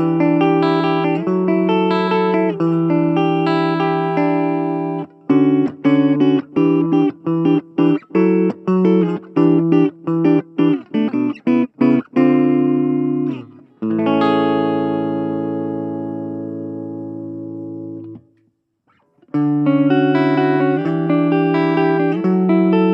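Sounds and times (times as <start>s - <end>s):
clean electric guitar chords: 0.0s - 18.3s, 19.3s - 22.9s.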